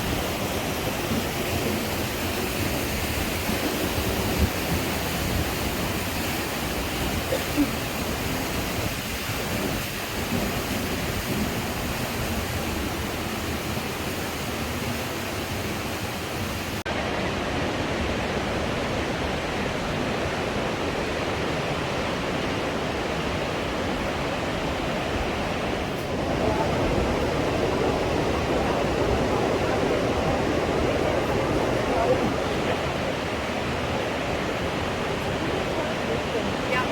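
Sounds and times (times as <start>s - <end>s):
river water roaring through gorge: 0.0s - 36.9s.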